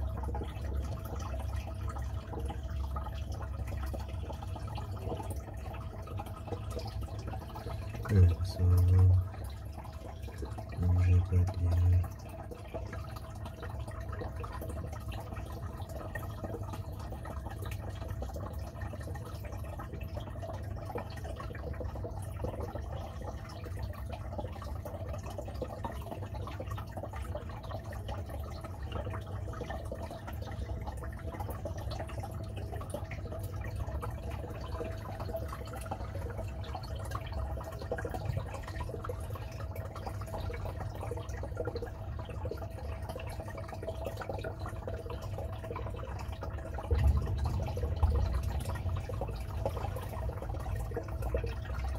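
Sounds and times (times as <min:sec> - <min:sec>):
filter low hum: 0:00.0 - 0:51.9
water trickling: 0:00.0 - 0:51.9.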